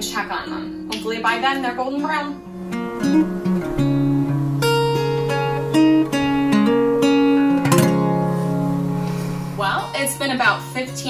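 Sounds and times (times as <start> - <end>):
plucked instrumental music: 0.0 - 11.0.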